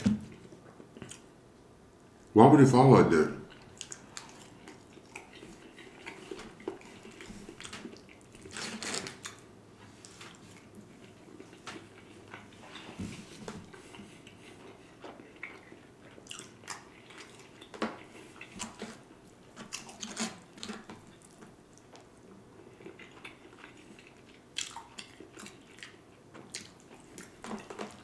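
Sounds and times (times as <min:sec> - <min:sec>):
person chewing: 0:00.0 - 0:01.3, 0:03.5 - 0:28.0.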